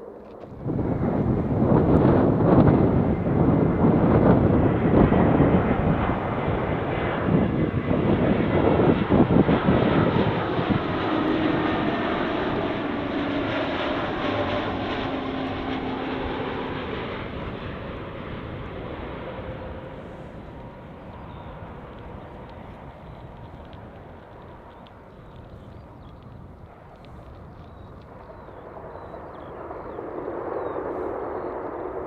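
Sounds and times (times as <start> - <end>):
airliner engine noise overhead: 0.0 - 32.0.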